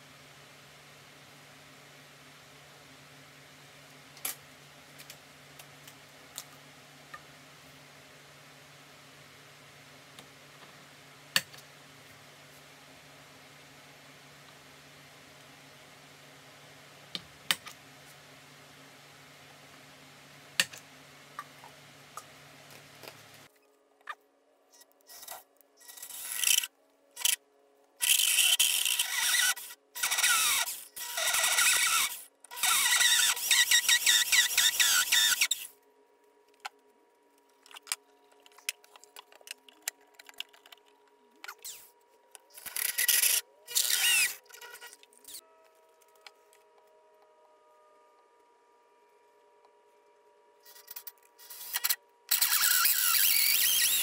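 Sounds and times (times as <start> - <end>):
faint hum: 0.0 - 54.0.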